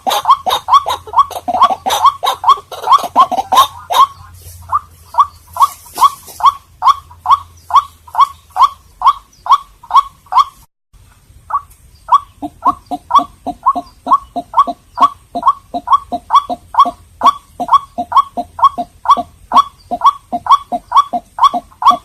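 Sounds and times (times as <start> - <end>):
waterhen calling: 0.0 - 10.7, 11.4 - 22.0.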